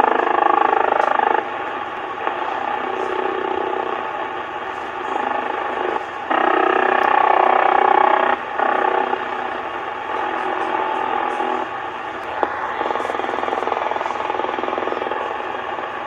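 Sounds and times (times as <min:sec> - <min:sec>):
warbling radio signal: 0:00.0 - 0:16.0.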